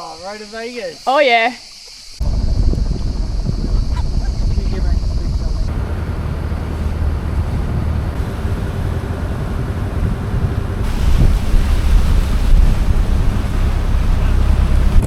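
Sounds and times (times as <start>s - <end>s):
wind buffeting microphone: 2.2s - 15.0s.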